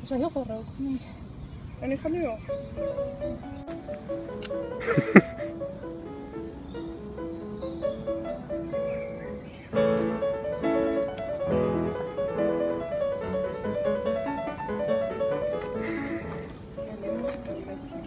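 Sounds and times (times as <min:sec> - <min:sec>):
piano music: 0:02.1 - 0:18.0.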